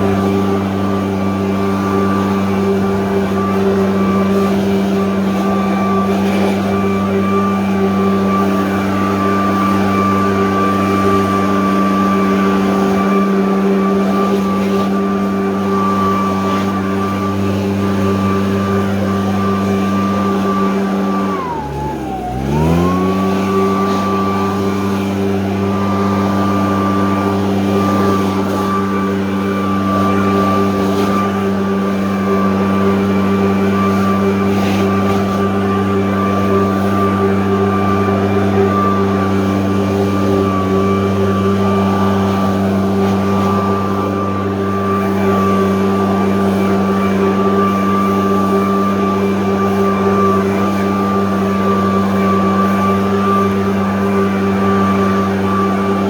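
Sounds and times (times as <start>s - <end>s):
leaf blower engine revving: 0.0s - 56.0s.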